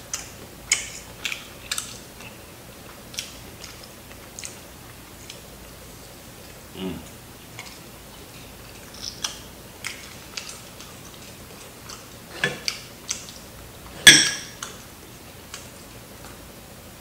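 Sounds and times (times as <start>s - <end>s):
crispy fried chicken being chewed: 0.0s - 16.5s.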